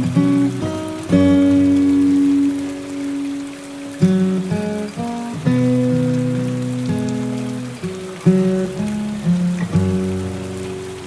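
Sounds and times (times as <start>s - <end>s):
acoustic guitar chord: 0.0s - 11.0s
rain hiss: 0.0s - 11.0s.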